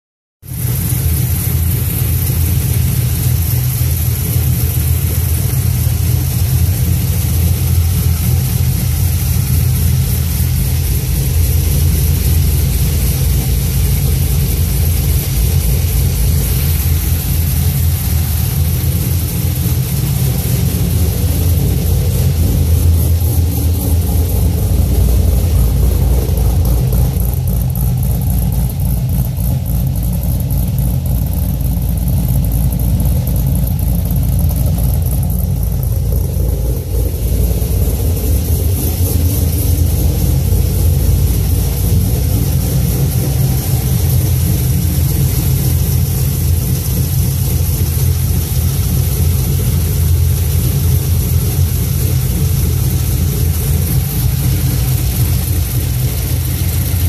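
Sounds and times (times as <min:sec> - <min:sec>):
car engine idling: 0:00.4 - 0:57.0
fast valvetrain ticking: 0:00.4 - 0:57.0.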